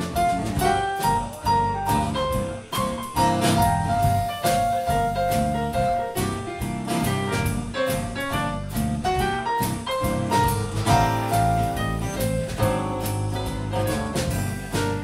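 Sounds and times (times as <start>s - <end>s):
acoustic guitar: 0.0s - 15.0s
electric bass: 0.0s - 15.0s.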